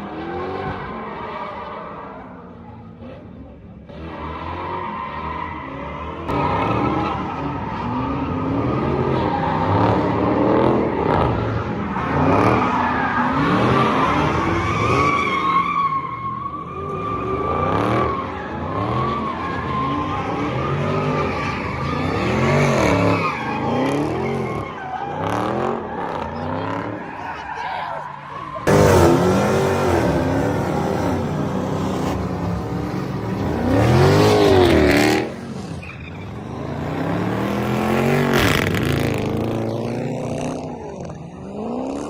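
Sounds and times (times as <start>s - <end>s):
car engines revving: 0.0s - 42.0s
tires screeching: 0.0s - 42.0s.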